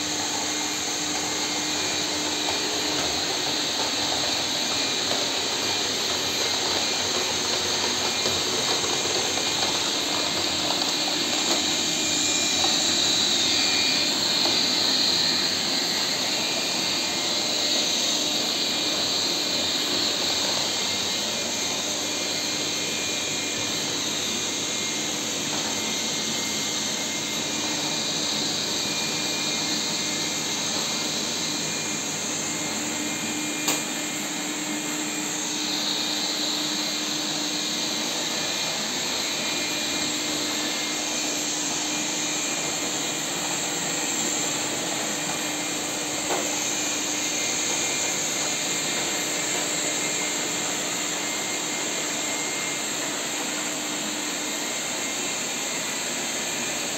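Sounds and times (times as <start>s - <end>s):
robot vacuums whirring: 0.0s - 56.9s.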